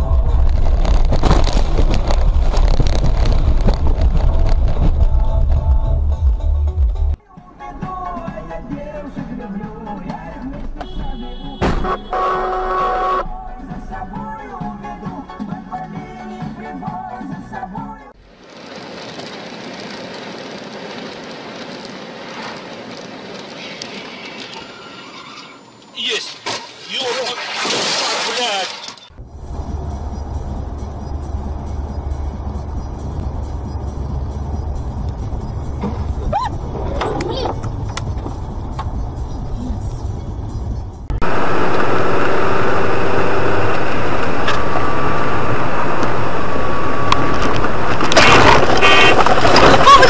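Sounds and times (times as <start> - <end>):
road and tyre noise: 0.0 - 50.0.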